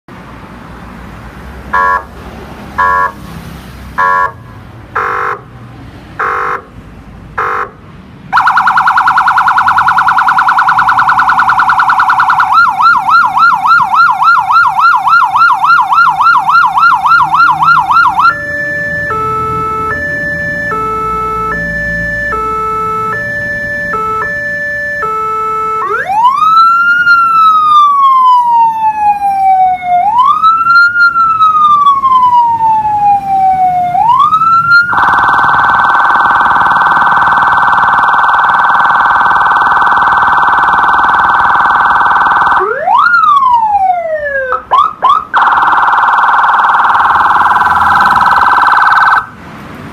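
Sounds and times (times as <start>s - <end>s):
electronic emergency siren: 1.7s - 2.1s, 2.8s - 3.2s, 8.3s - 49.3s.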